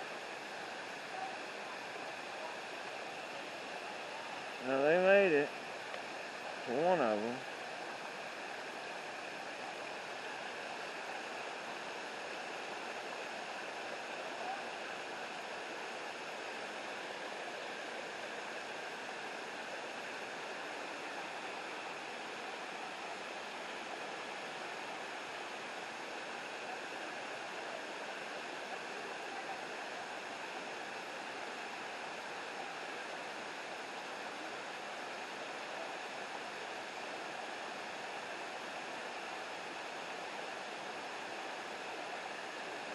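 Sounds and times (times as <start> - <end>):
river water rushing: 0.0 - 42.9
waterfall: 0.0 - 42.9.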